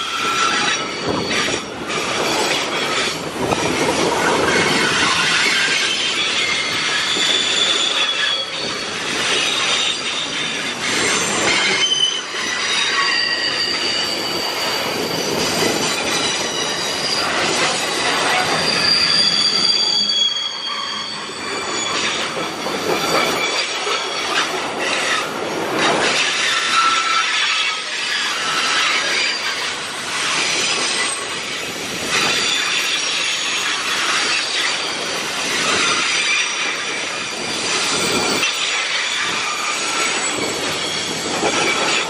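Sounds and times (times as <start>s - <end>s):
freight train rolling past: 0.0s - 42.0s
high wheel squeal: 0.0s - 42.0s.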